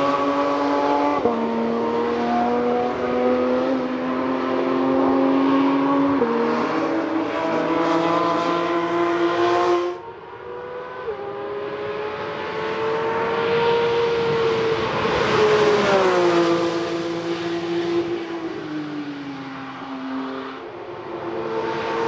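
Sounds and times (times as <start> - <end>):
race car engine passing by: 0.0 - 22.0.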